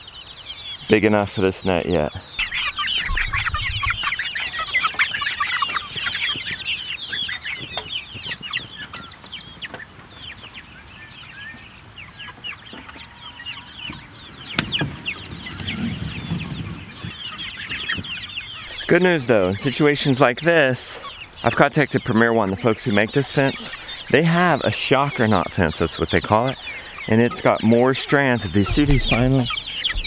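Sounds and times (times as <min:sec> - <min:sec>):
chicks cheeping: 0:00.0 - 0:30.0.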